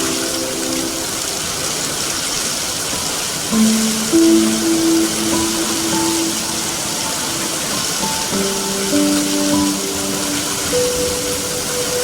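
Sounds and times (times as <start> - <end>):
soft slow instrumental music: 0.0 - 2.1, 3.5 - 12.0
rain hiss: 0.0 - 12.0.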